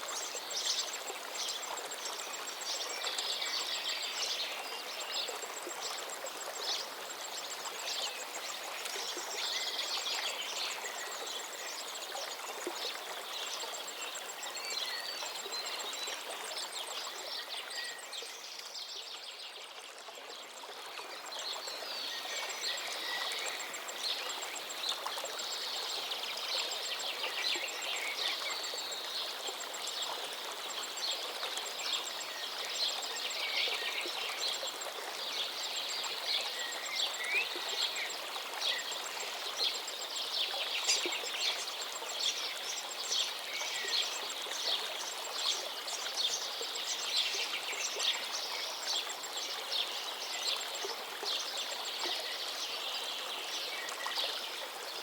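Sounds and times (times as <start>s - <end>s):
river water running: 0.0s - 55.0s.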